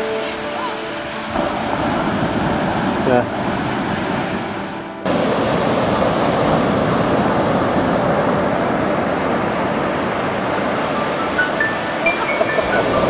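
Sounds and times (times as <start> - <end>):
water noise: 0.0 - 13.0.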